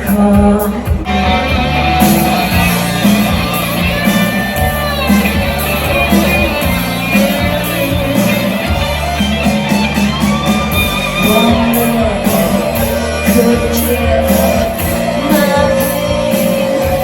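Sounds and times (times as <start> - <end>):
bass line: 0.0 - 17.0
drum beat: 0.0 - 17.0
guitar: 0.0 - 17.0.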